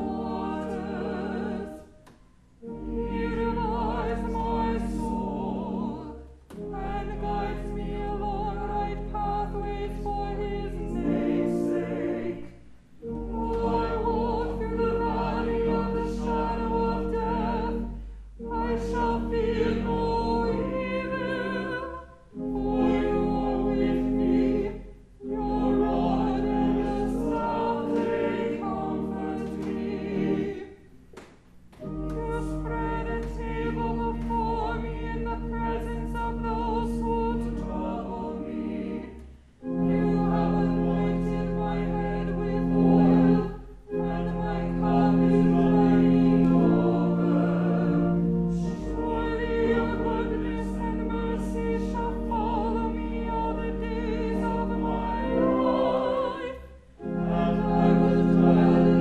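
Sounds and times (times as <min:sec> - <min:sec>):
choir singing: 0:00.0 - 0:30.9, 0:31.8 - 0:59.0
low held accompaniment notes: 0:00.0 - 0:31.0, 0:31.6 - 0:59.0.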